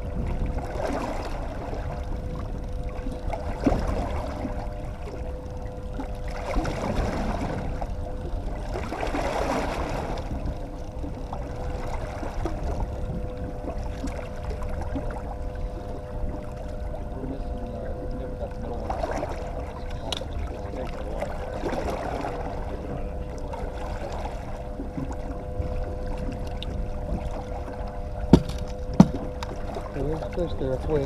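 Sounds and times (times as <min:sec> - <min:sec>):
boat motor humming: 0:00.0 - 0:31.0
water rumble: 0:00.0 - 0:31.0
wind: 0:00.0 - 0:31.0.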